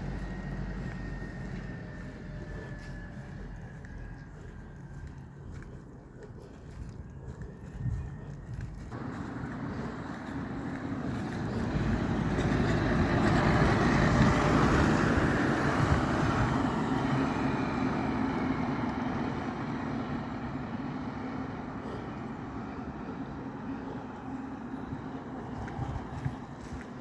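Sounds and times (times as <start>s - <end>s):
steady engine hum: 0.0s - 27.0s
vehicle passing close by: 0.0s - 27.0s.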